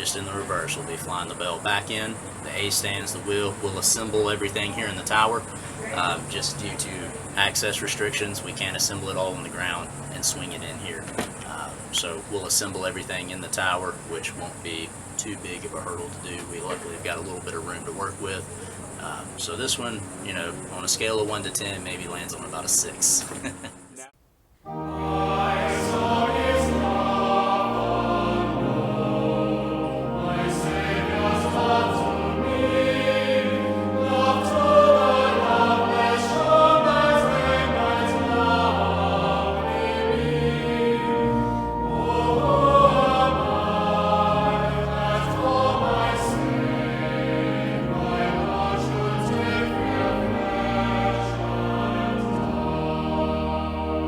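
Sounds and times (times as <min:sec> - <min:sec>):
choir singing slow harmony: 0:00.0 - 0:10.8, 0:13.6 - 0:23.8, 0:24.6 - 0:54.0.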